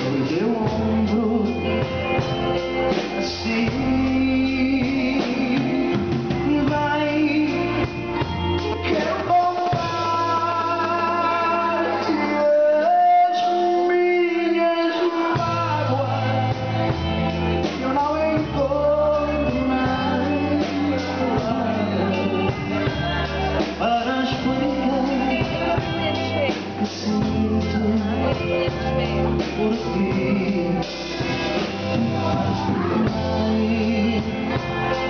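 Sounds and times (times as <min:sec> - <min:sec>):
band music: 0:00.0 - 0:35.0
bass guitar: 0:00.0 - 0:35.0
person singing: 0:00.0 - 0:35.0.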